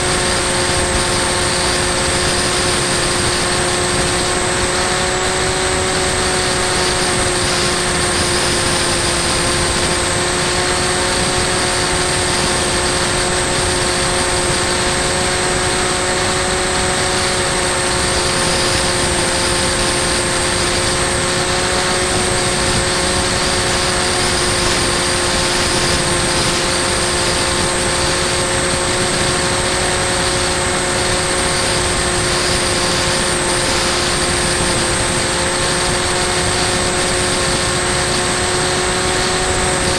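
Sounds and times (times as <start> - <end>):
electric motor and propeller whine: 0.0 - 39.9
wind rushing on microphone: 0.0 - 39.9.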